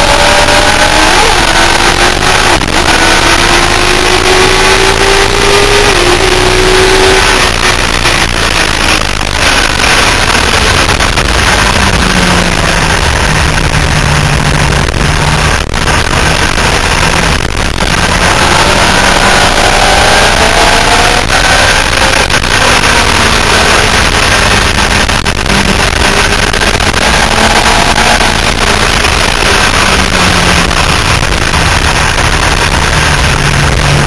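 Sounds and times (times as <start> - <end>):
motorcycle engine at high revs: 0.0 - 34.0
wind noise on microphone: 0.0 - 34.0.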